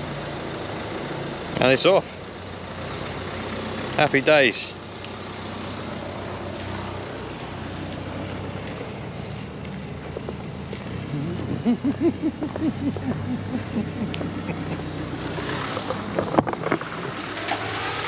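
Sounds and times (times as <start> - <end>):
car engines at low speed: 0.0 - 18.0.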